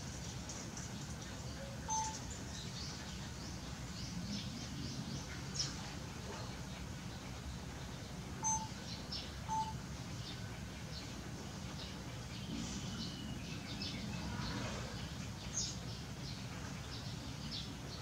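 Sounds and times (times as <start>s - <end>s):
steady low background noise: 0.0s - 18.0s
small birds chirping: 0.2s - 18.0s.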